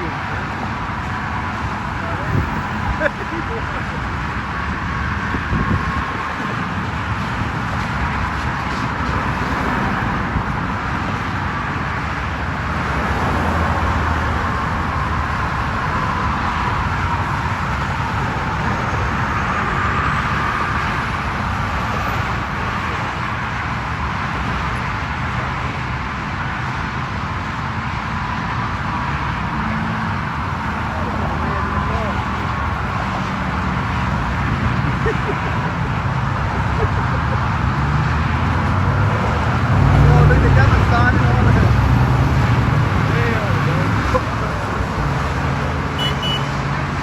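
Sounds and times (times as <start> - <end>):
roadside traffic noise: 0.0 - 47.0.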